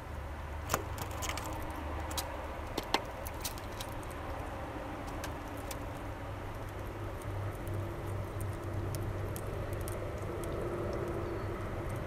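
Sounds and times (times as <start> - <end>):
bird cracking seeds: 0.6 - 12.0.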